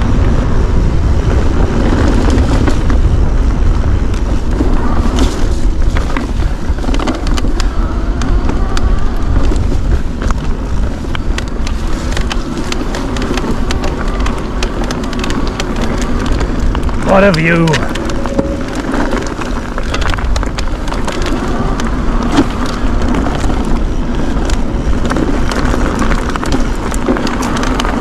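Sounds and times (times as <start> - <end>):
stones and bike clicking and rattling: 0.0 - 28.0
wind rumbling on microphone: 0.0 - 28.0
tyres crunching over loose stone: 3.7 - 28.0.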